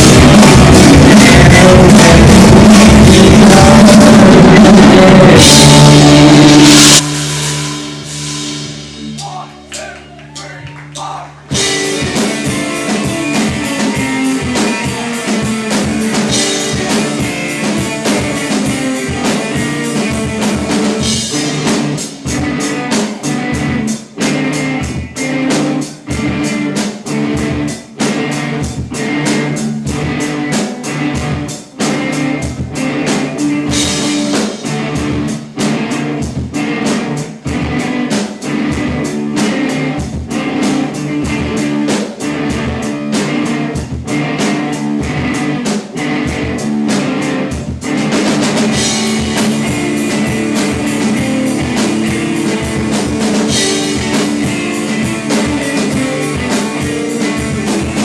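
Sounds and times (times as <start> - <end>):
drum kit beat: 0.0 - 58.0
electric guitar: 0.0 - 58.0.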